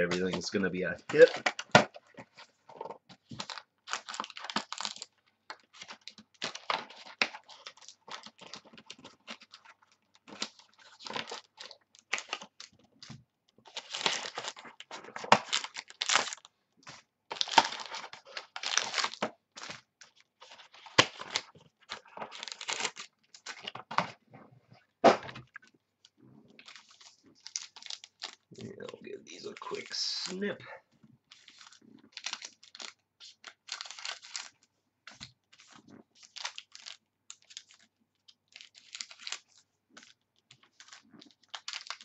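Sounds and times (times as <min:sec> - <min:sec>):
cardboard packaging rustling: 0:00.0 - 0:25.5, 0:26.1 - 0:30.6, 0:31.3 - 0:42.0.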